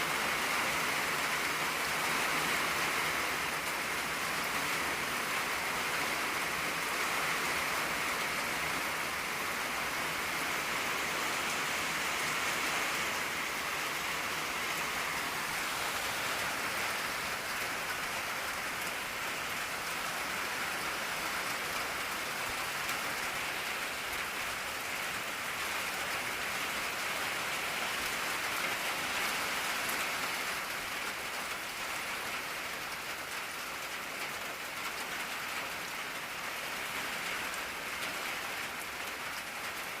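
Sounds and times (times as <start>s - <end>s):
rain on a tin roof: 0.0s - 40.0s.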